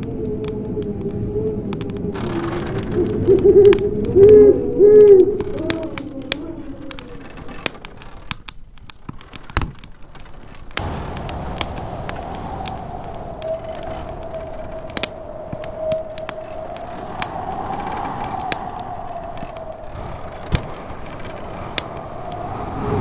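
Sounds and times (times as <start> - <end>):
howling wind whistling: 0.0 - 23.0
wood fire crackling: 0.0 - 23.0.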